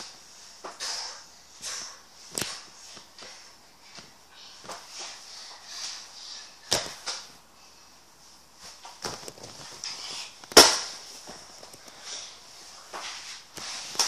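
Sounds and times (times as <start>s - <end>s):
rustling near microphone: 0.0s - 14.0s.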